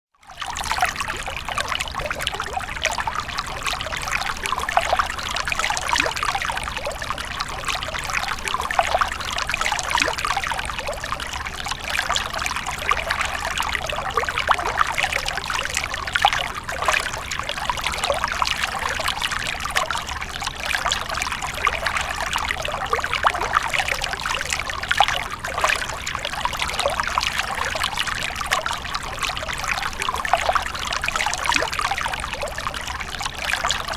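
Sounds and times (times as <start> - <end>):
water stream pouring and trickling: 0.2 - 33.9.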